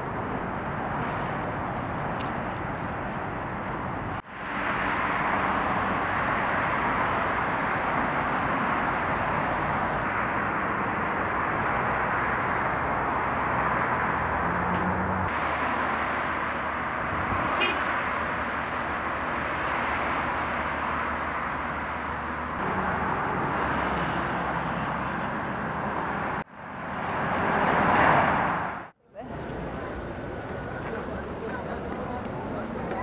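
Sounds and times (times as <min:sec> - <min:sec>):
cars driving past: 0:00.8 - 0:33.0.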